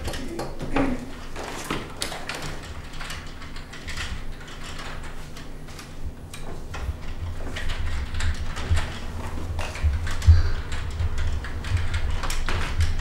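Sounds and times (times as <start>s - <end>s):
keyboard keys clicking: 0.0s - 13.0s.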